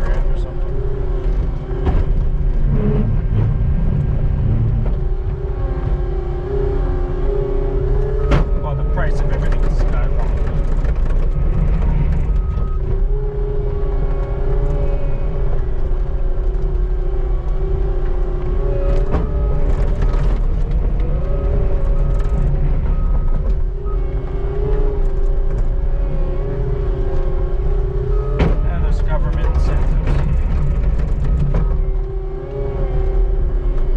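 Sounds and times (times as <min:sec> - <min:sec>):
engine running under load: 0:00.0 - 0:33.9
steady wavering whine: 0:00.0 - 0:33.9.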